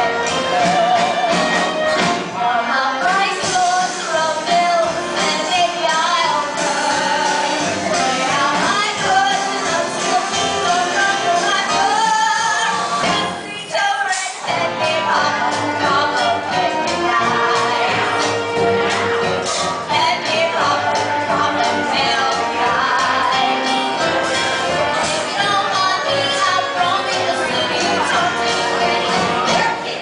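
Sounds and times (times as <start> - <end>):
big band playing swing: 0.0 - 30.0.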